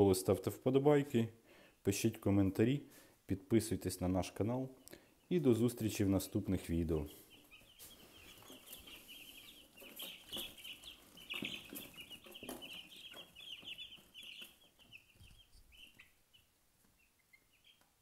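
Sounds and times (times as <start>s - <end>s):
chicks peeping: 3.4s - 18.0s.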